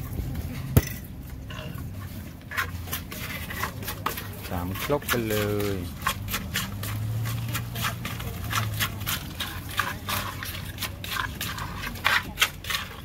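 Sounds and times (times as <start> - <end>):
wooden pestle pounding in mortar: 2.6 - 13.0.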